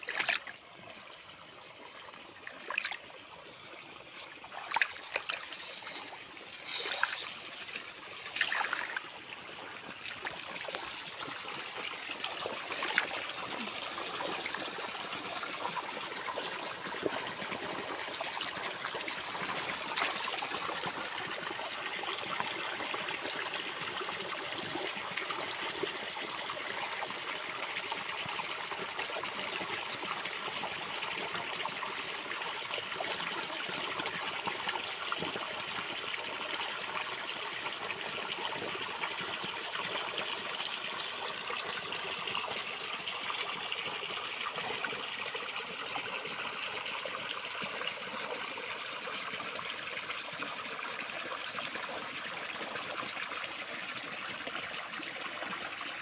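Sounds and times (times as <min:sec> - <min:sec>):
water flowing through ditch: 0:00.0 - 0:56.0.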